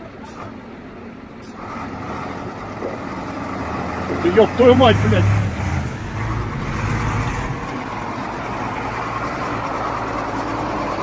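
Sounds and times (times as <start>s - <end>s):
vehicle engine running: 2.2s - 11.0s.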